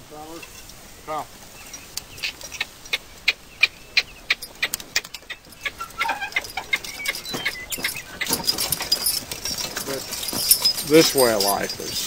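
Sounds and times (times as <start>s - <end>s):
hooves and harness clinking: 0.1s - 12.0s.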